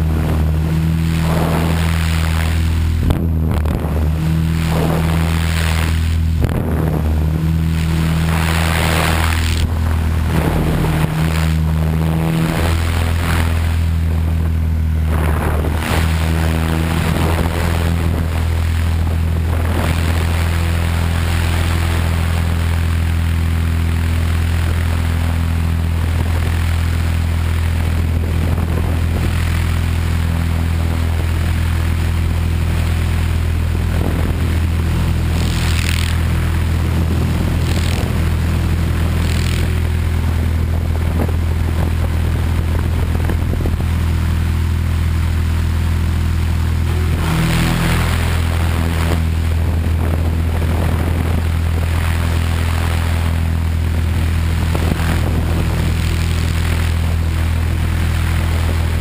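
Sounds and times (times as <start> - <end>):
helicopter rotor and motor drone: 0.0 - 59.0.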